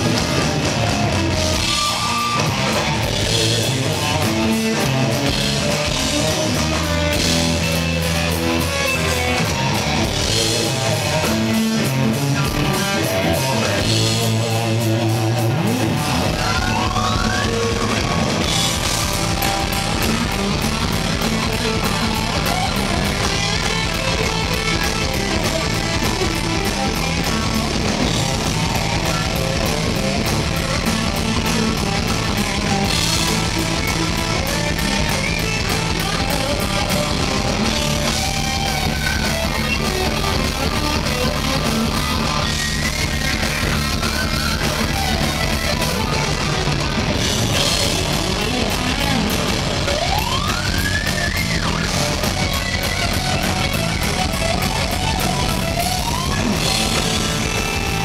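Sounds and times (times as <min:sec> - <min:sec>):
bass guitar: 0:00.0 - 0:58.0
drums: 0:00.0 - 0:58.0
electric guitar lead: 0:00.0 - 0:58.0.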